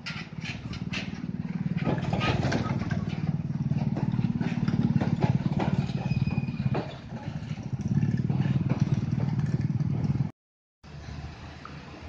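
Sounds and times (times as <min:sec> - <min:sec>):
truck diesel engine throbbing: 0:00.0 - 0:10.3
motorcycle engines passing: 0:00.3 - 0:10.3.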